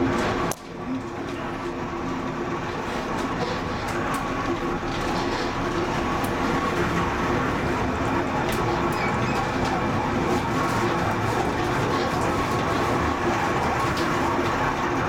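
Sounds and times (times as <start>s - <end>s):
funicular car rolling rumble: 0.0s - 15.0s.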